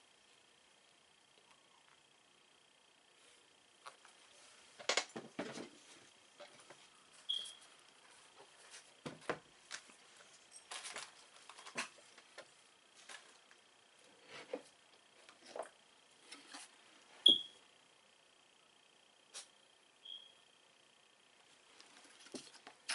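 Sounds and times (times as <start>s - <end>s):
faint high whine: 0.0s - 22.9s.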